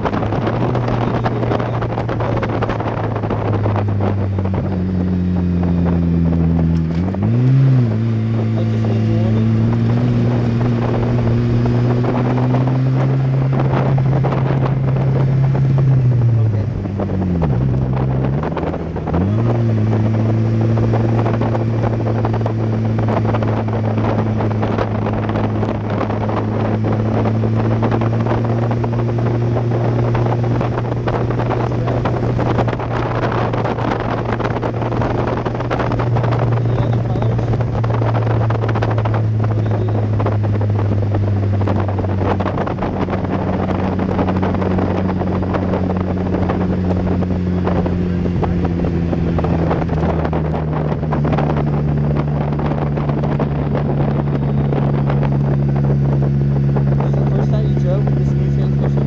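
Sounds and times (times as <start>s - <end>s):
car engine running: 0.0s - 59.0s
wind noise: 0.0s - 59.0s.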